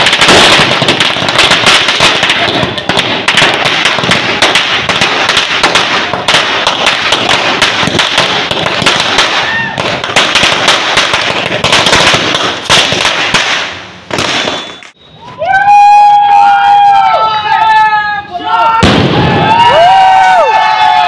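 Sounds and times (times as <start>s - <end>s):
firecrackers banging and crackling: 0.0s - 15.0s, 18.8s - 21.0s.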